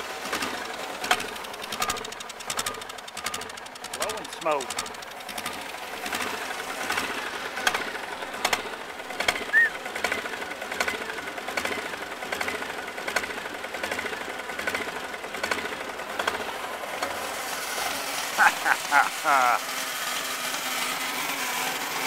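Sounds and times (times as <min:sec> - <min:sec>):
diesel engine clattering: 0:00.0 - 0:22.0.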